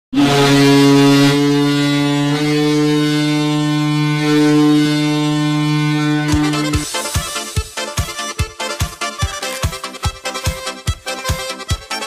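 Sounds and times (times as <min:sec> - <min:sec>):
hockey goal horn: 0:00.1 - 0:12.0.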